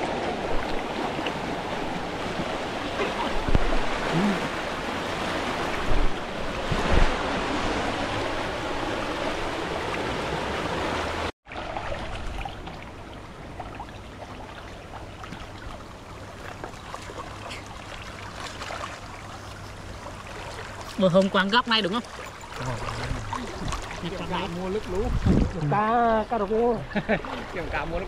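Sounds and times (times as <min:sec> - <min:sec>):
floodwater rushing: 0:00.0 - 0:28.0
water splashing and trickling: 0:00.0 - 0:28.0.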